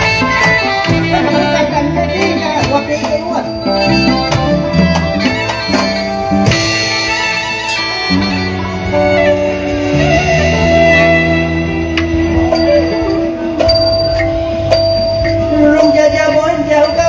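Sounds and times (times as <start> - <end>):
sharp percussion strikes: 0.0 - 8.4, 10.5 - 17.0
instrumental melody of held notes: 0.0 - 17.0.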